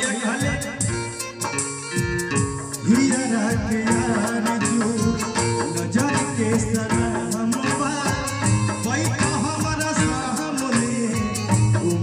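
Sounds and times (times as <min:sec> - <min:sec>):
man singing into microphone: 0:00.0 - 0:01.6, 0:02.7 - 0:12.0
amplified backing music: 0:00.0 - 0:12.0.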